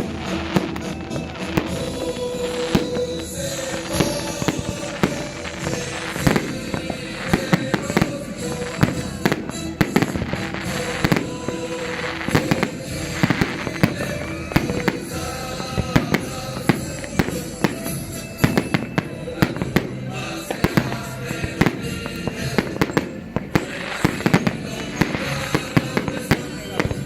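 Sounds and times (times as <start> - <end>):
fireworks banging: 0.0 - 27.0
music playing: 0.0 - 27.0.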